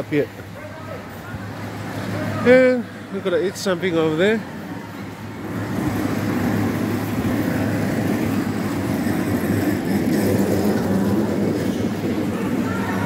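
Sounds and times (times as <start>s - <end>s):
busy indoor market rumble: 0.0s - 13.0s.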